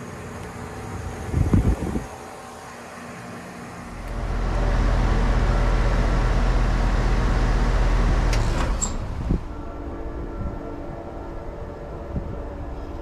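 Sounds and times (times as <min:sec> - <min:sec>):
heat pump hum: 0:00.0 - 0:13.0.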